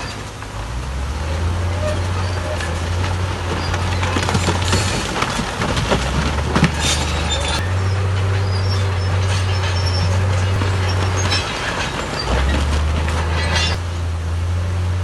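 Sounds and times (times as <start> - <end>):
heavy diesel machinery running: 0.0 - 15.0
faint squeaks: 1.4 - 13.8
metallic clanks: 1.6 - 14.1.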